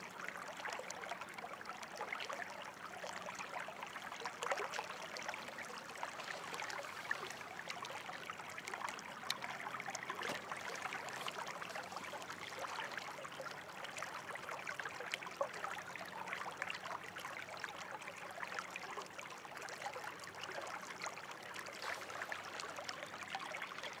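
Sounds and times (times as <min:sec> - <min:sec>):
stream trickling and babbling: 0:00.0 - 0:24.0.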